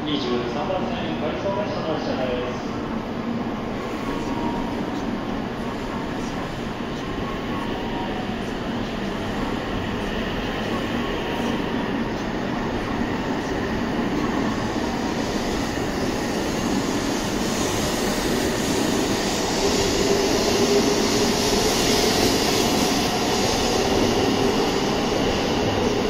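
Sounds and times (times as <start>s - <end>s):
train running noise: 0.0s - 26.0s.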